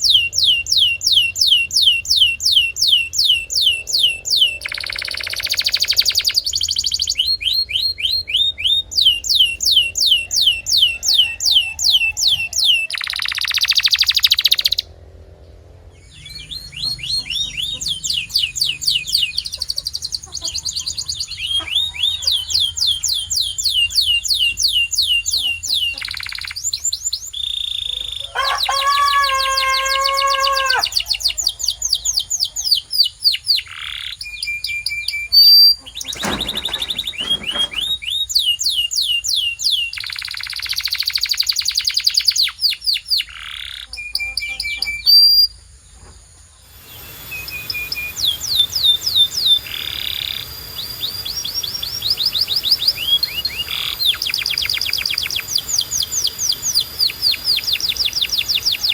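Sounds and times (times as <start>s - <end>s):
canary singing trills: 0.0s - 14.9s, 15.9s - 45.7s, 46.6s - 58.9s.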